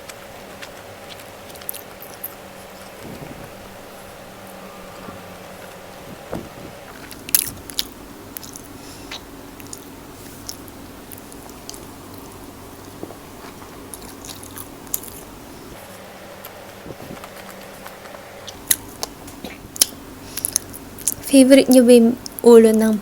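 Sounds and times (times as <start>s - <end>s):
person chewing wetly: 0.0s - 15.8s, 16.4s - 21.2s
crunchy chewing clicks: 0.0s - 22.5s.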